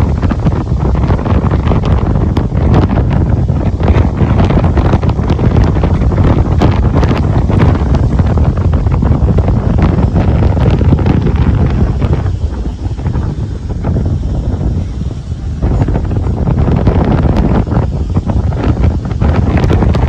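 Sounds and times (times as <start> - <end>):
rough sea surf: 0.0 - 20.0
wind buffeting microphone: 0.0 - 20.0.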